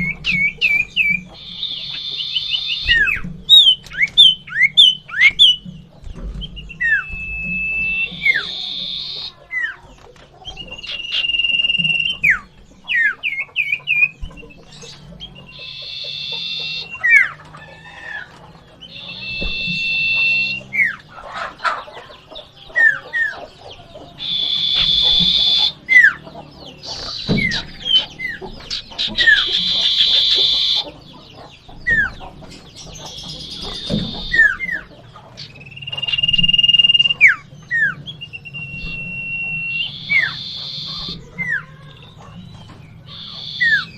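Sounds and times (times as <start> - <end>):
birds harsh buzzy chatter: 0.0 - 43.9
birds whistling: 0.0 - 43.9.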